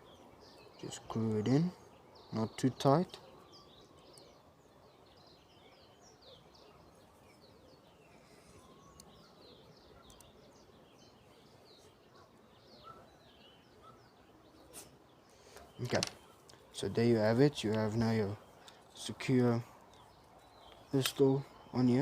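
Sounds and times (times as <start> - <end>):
faint birds chirping: 0.0 - 22.0
low background noise: 0.0 - 22.0.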